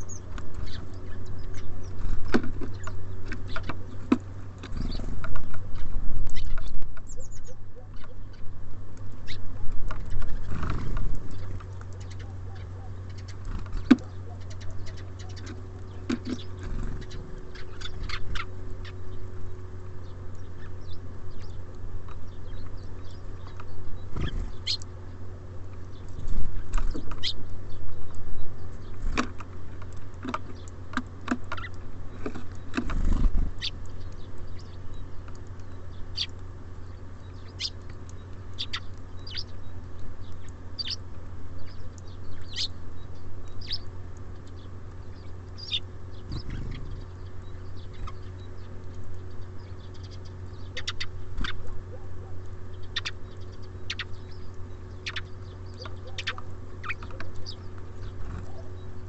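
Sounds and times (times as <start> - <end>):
small birds chirping: 0.0 - 59.0
steady low hum: 0.0 - 59.0
birds pecking and landing taps: 0.1 - 59.0.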